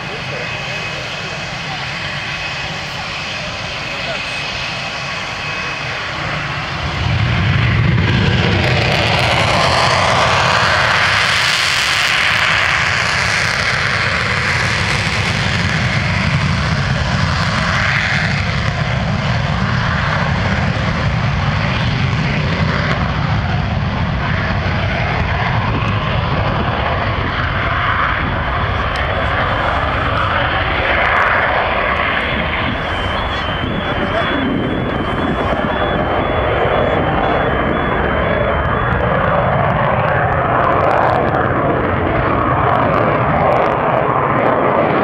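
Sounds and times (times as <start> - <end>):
jet engine roaring: 0.0 - 45.0.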